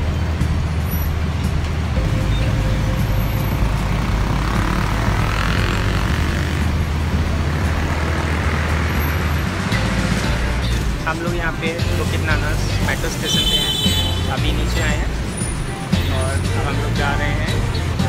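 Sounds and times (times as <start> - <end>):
heavy road traffic rumble: 0.0 - 18.0.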